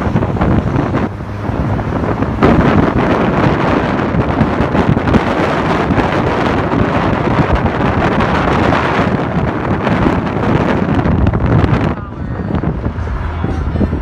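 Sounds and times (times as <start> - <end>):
car road noise: 0.0 - 14.0
wind rushing over microphone: 0.0 - 14.0.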